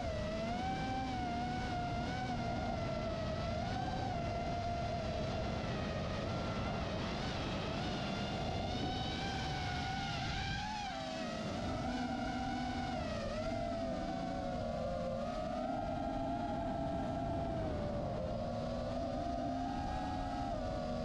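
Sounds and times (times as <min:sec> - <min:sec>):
electric propeller whine: 0:00.0 - 0:21.0
wind rumble on microphone: 0:00.0 - 0:21.0.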